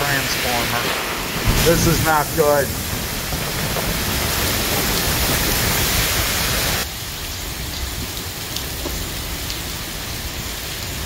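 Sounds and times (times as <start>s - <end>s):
heavy wind-driven rain: 0.0s - 11.0s
rain splashing on pavement: 0.0s - 11.0s.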